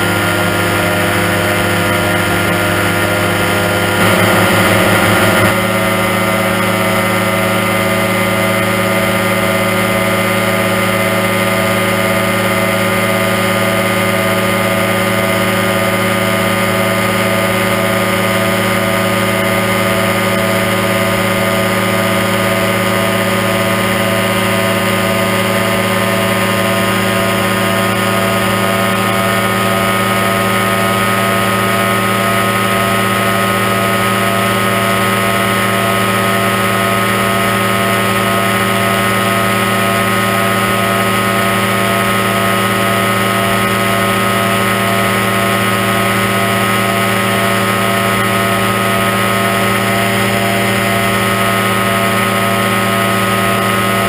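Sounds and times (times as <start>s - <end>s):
engine and propeller drone: 0.0s - 54.0s.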